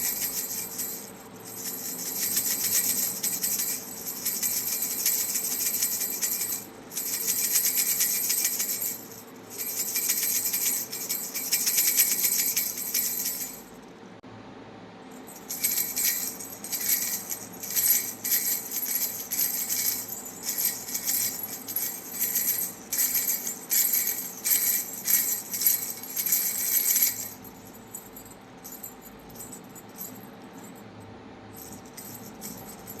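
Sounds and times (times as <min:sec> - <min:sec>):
bell rattle jingling: 0:00.0 - 0:13.8, 0:15.2 - 0:30.8, 0:31.6 - 0:33.0.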